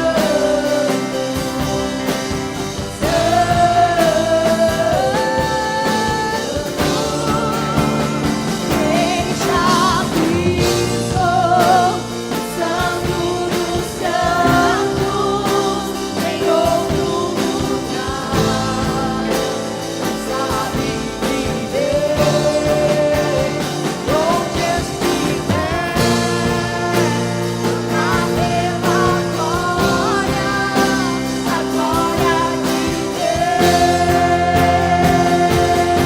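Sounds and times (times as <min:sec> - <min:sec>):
person singing: 0:00.0 - 0:36.0
worship band playing: 0:00.0 - 0:36.0.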